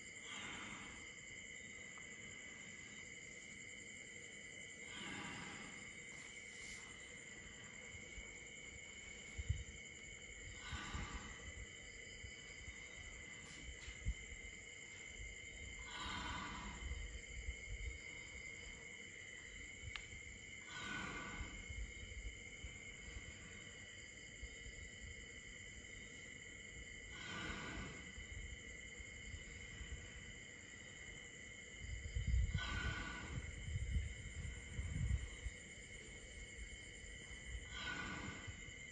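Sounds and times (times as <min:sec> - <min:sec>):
elephant breathing in sleep: 0:00.0 - 0:38.9
night insects chorus: 0:00.0 - 0:38.9.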